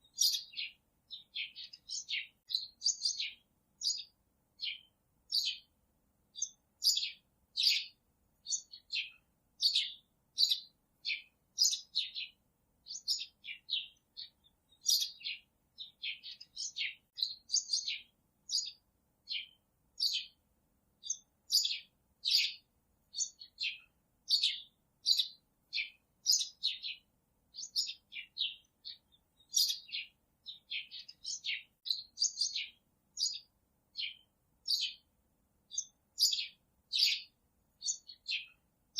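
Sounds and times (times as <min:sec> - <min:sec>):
birds chirping: 0:00.0 - 0:05.7, 0:06.3 - 0:20.4, 0:21.0 - 0:35.1, 0:35.7 - 0:38.6.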